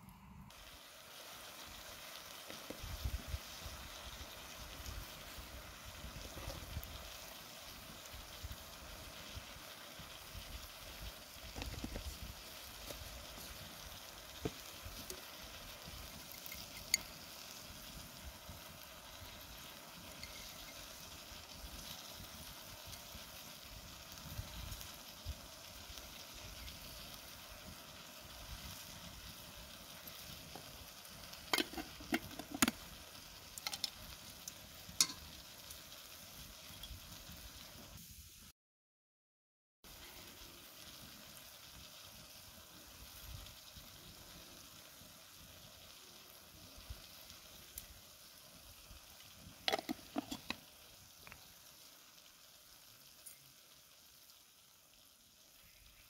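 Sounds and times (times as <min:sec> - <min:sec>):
onions sizzling in oil: 0:00.0 - 0:38.5, 0:39.8 - 0:56.0.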